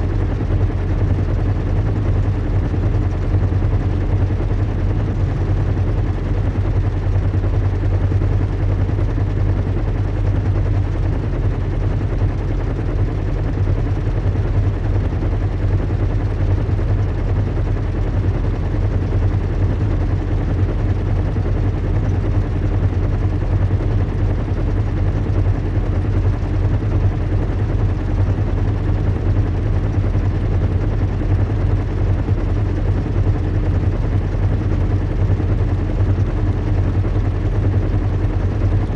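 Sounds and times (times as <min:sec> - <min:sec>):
engine and propeller drone: 0:00.0 - 0:38.9.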